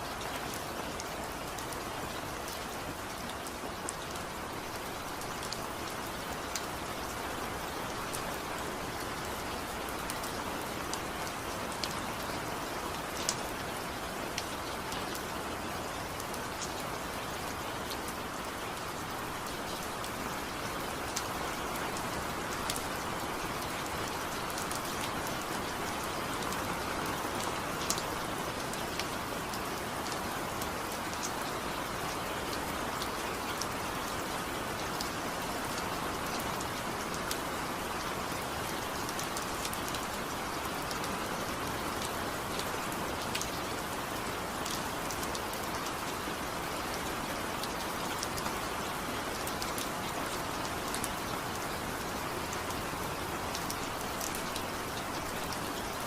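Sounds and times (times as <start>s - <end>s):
rain hiss: 0.0s - 56.0s
raindrops pattering on surface: 0.0s - 56.0s.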